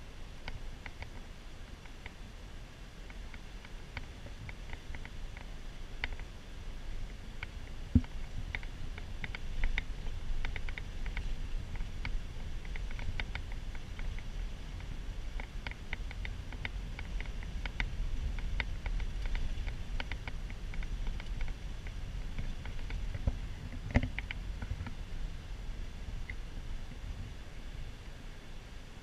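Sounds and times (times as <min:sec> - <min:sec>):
light clicking rattles: 0:00.0 - 0:02.3, 0:03.0 - 0:25.1
van engine and road rumble: 0:00.0 - 0:29.0.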